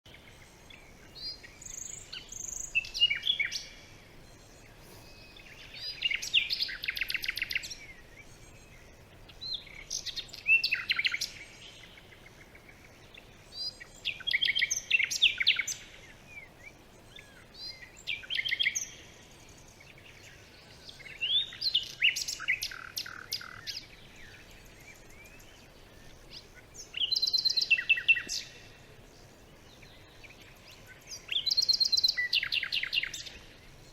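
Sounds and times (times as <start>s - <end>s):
songbird trilling: 0.1s - 28.8s, 29.7s - 33.9s
faint background hiss: 0.1s - 33.9s.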